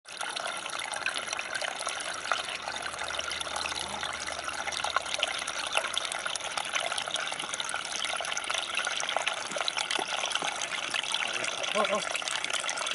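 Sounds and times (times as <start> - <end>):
stream trickling over rocks: 0.0 - 12.9.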